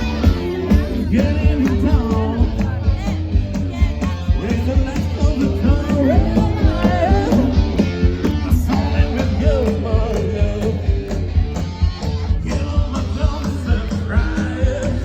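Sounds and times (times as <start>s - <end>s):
person singing: 0.0s - 11.2s, 11.8s - 15.0s
live rock band playing: 0.0s - 15.0s.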